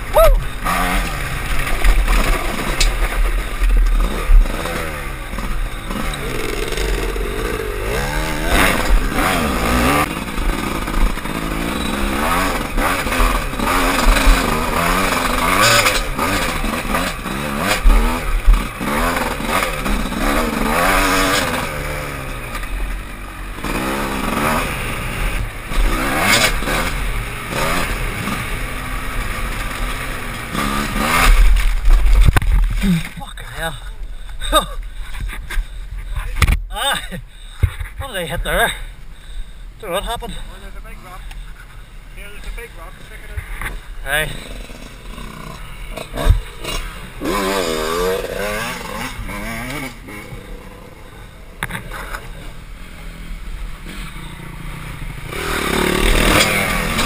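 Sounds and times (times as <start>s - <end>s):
dirt bike engine revving: 0.0s - 33.2s, 42.3s - 57.0s.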